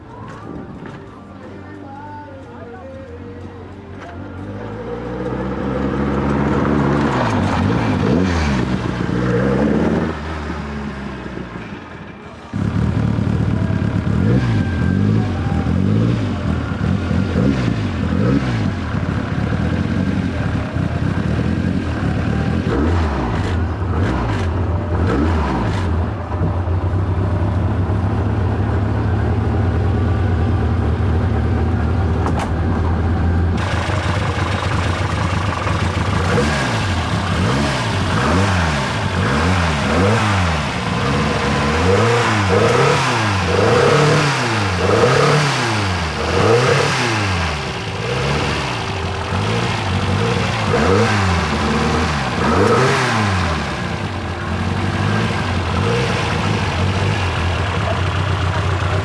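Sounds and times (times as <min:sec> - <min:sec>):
car engine revving and idling: 0:04.0 - 0:59.0.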